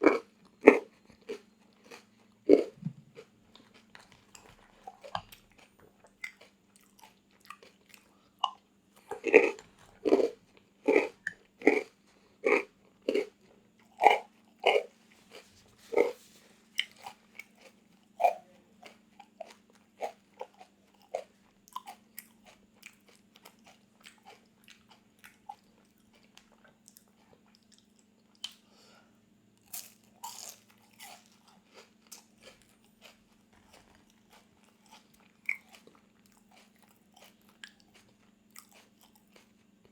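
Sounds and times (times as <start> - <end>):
crunchy chewing: 0.0 - 28.7, 29.6 - 39.9
faint steady hum: 0.0 - 39.9.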